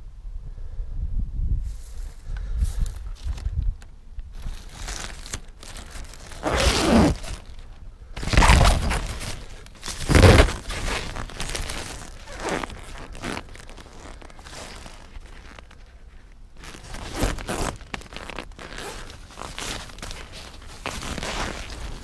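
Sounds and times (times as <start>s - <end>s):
tent fabric rustling: 2.8s - 3.5s, 4.3s - 22.0s.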